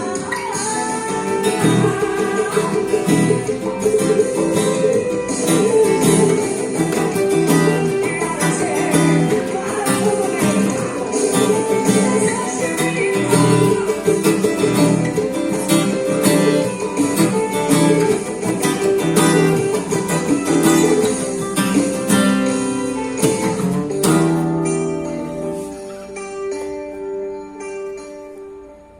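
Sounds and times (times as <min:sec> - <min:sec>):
acoustic guitar picking and strumming: 0:00.0 - 0:28.9.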